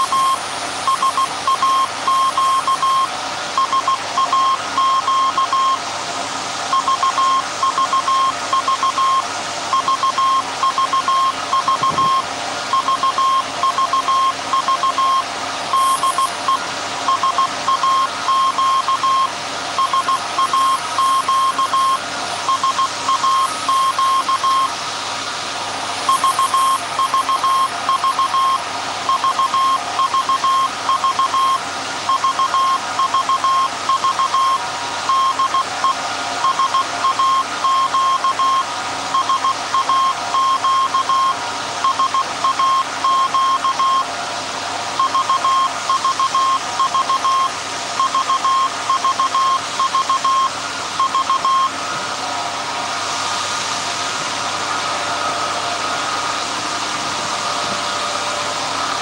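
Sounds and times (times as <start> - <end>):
morse code beeps: 0.0 - 5.8, 6.7 - 24.7, 26.1 - 44.1, 45.0 - 51.7
alternator whirring: 0.0 - 59.0.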